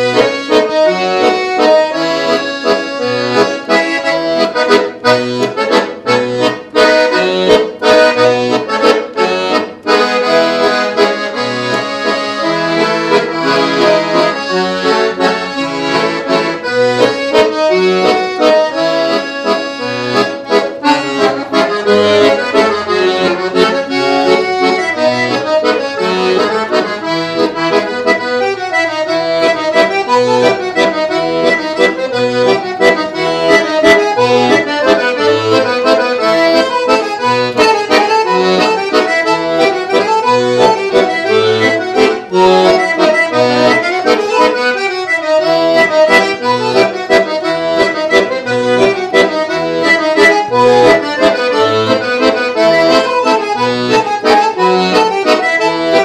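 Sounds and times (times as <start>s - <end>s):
accordion melody with bass notes: 0.0s - 56.0s.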